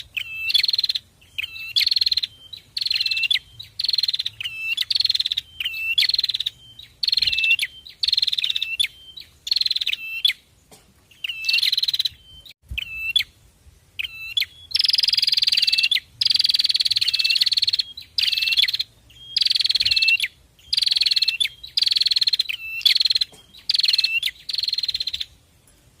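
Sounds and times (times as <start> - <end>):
songbird buzzy trill: 0.0 - 26.0.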